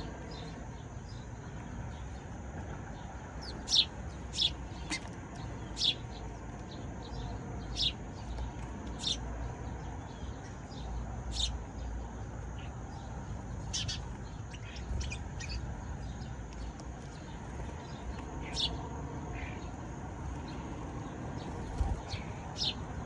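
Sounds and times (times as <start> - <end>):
sparrows chirping: 0.0 - 23.0.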